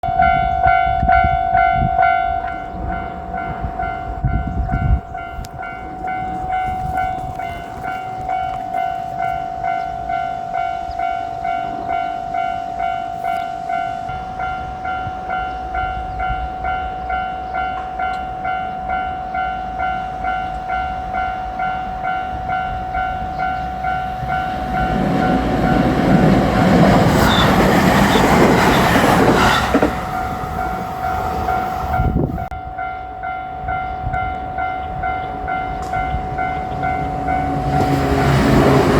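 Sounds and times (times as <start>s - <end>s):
level-crossing warning bell: 0.0s - 38.9s
electric train passing: 0.1s - 38.9s.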